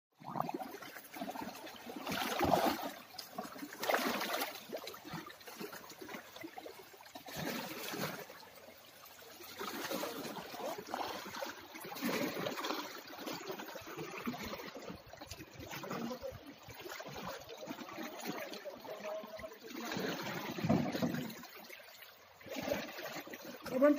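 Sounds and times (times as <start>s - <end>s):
water splashing and trickling: 0.1s - 23.9s.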